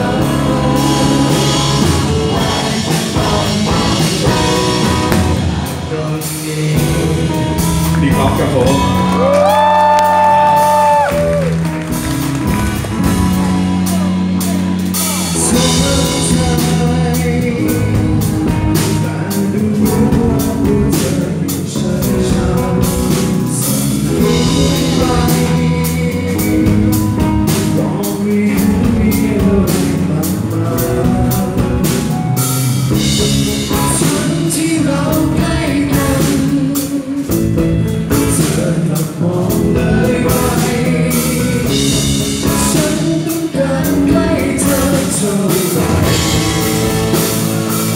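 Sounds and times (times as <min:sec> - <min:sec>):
person singing: 0:00.0 - 0:11.9, 0:12.9 - 0:47.9
drum kit: 0:00.0 - 0:47.9
electric guitar: 0:00.0 - 0:47.9.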